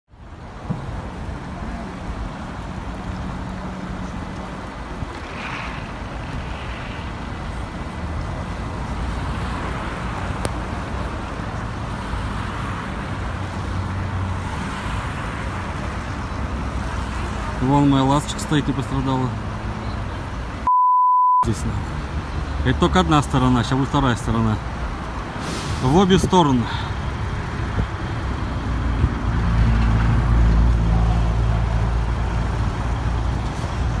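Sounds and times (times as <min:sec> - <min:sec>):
highway traffic: 0:00.1 - 0:20.7, 0:21.3 - 0:34.0.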